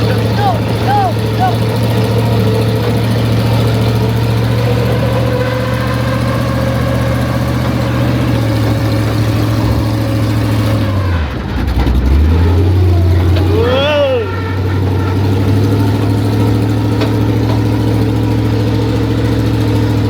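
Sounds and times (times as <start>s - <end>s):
truck engine running deep hum: 0.0s - 20.0s.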